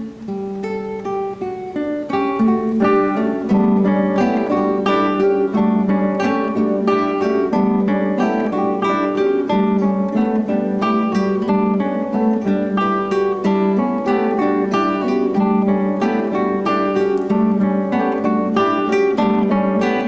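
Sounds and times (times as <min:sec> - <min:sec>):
acoustic guitars plucking rapidly: 0:01.7 - 0:20.0.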